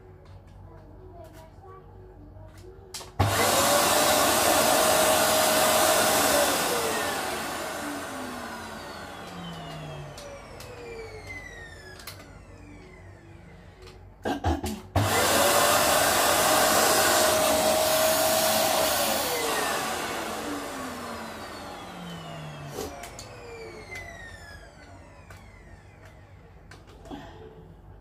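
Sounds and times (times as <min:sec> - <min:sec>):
vacuum cleaner motor whine: 0:03.2 - 0:14.1, 0:15.0 - 0:27.2.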